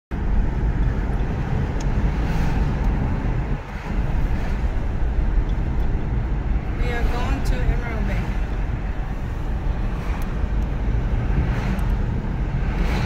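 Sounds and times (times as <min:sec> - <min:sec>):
car road noise from inside: 0:00.1 - 0:13.0.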